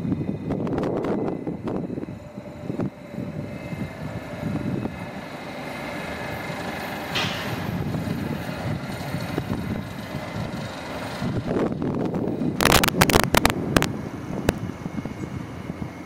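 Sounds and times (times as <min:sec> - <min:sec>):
faint traction whine: 0:00.0 - 0:16.0
train wheels rumbling on rails: 0:00.0 - 0:16.0.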